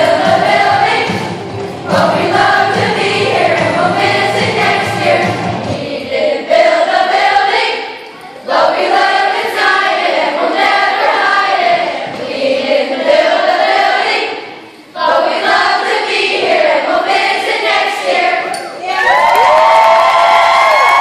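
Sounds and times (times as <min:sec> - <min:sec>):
children singing together: 0:00.0 - 0:18.7.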